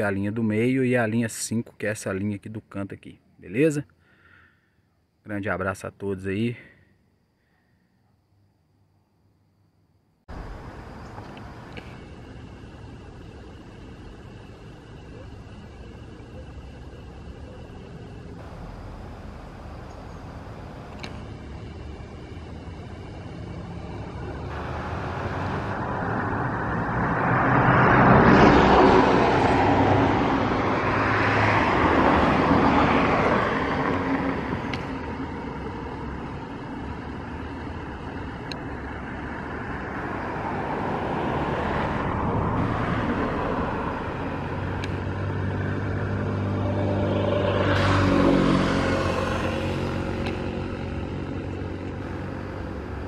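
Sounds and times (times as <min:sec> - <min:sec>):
low engine hum: 0:10.3 - 0:53.0
vehicles passing: 0:10.3 - 0:53.0.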